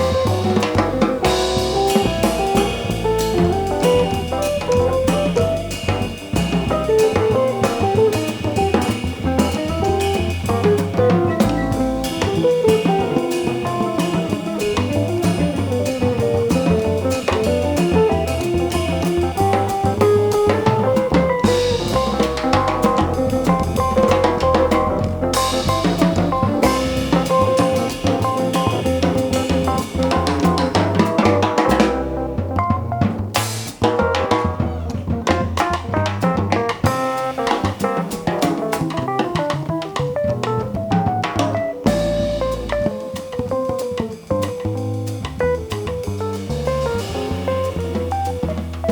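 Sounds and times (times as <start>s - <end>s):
drum kit: 0.0s - 48.9s
jazz band playing live: 0.0s - 48.9s.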